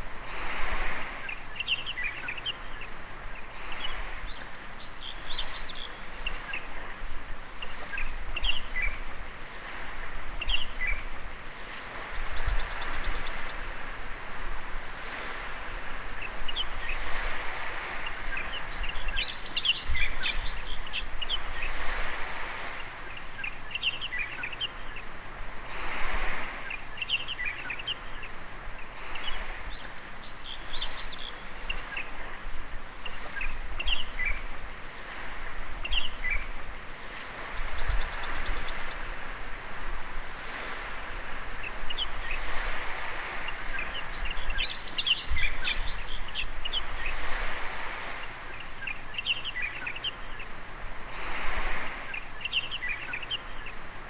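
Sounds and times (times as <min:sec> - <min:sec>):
waves washing on beach: 0:00.0 - 0:54.0
birds chirping: 0:01.2 - 0:07.0, 0:07.6 - 0:11.2, 0:11.8 - 0:14.0, 0:15.0 - 0:25.2, 0:26.5 - 0:39.4, 0:40.4 - 0:50.7, 0:51.4 - 0:54.0.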